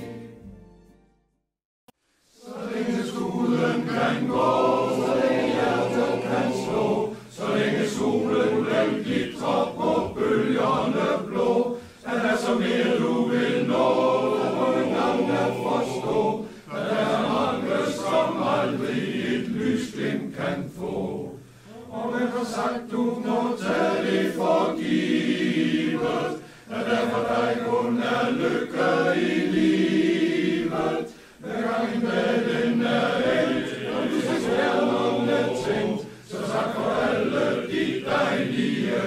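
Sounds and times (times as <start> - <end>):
male choir singing: 2.4 - 39.0.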